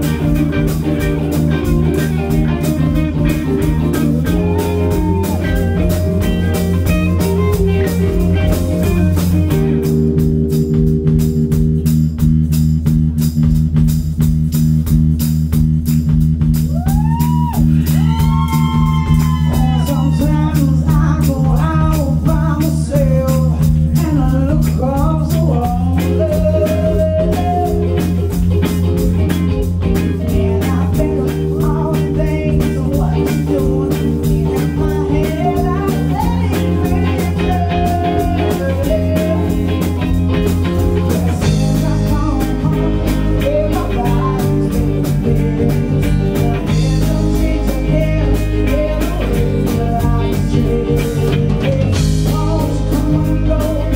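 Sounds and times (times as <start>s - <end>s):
woman singing: 0.0s - 9.9s, 17.9s - 29.1s, 29.9s - 53.9s
drum kit: 0.0s - 53.9s
electric guitars: 0.0s - 53.9s.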